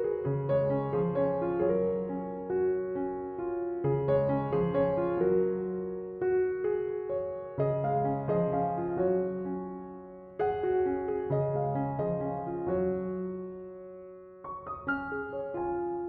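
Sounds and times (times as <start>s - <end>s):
slow solo piano music: 0.0s - 16.0s.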